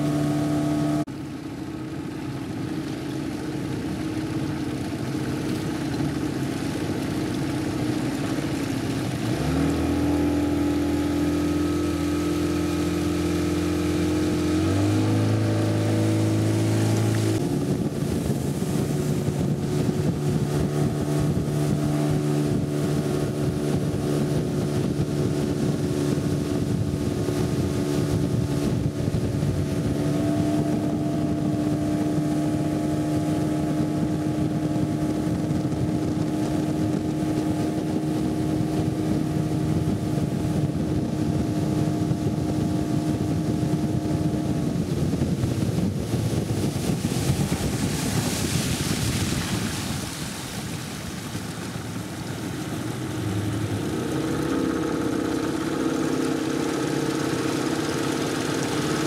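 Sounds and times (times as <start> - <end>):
motorboat engine: 0.0 - 59.0.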